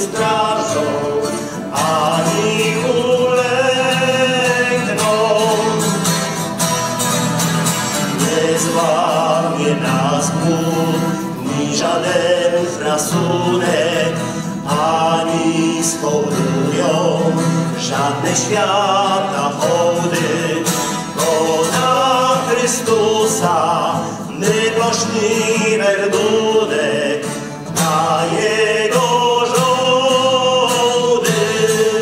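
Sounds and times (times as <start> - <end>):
man singing: 0.0 - 6.5, 7.8 - 32.0
acoustic guitar: 0.0 - 32.0.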